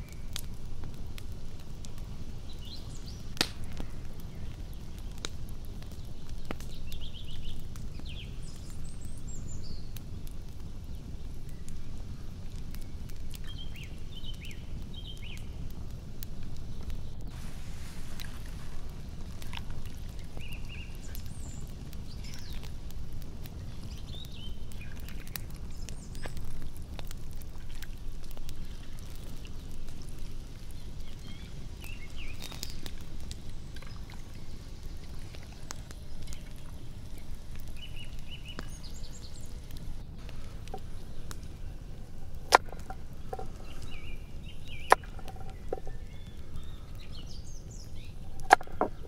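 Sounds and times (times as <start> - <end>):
low background rush: 0.0 - 49.0.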